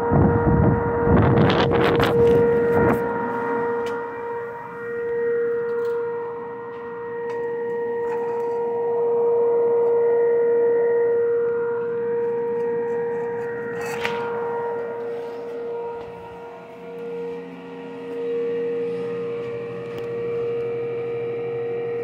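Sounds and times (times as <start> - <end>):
fan motor whine: 0.0 - 22.0.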